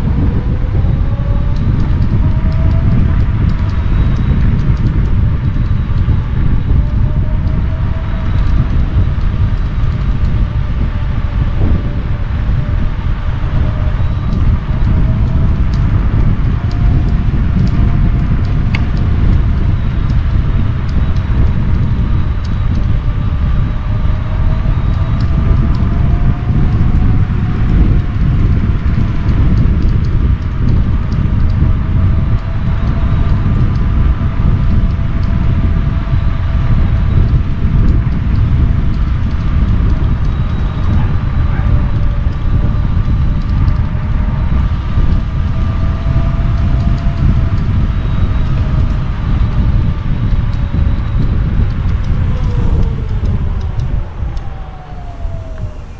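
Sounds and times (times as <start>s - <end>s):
electric motor whine: 0.0s - 55.9s
wind noise on microphone: 0.0s - 55.9s.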